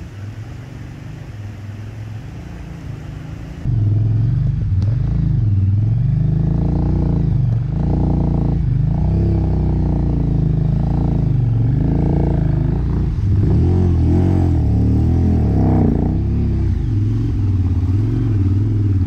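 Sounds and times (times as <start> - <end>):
motorcycle engine revving: 2.3 - 19.0.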